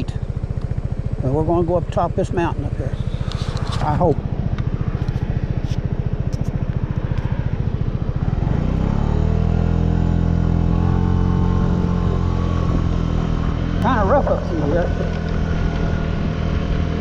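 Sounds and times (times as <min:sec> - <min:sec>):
scooter engine accelerating: 0:00.0 - 0:17.0.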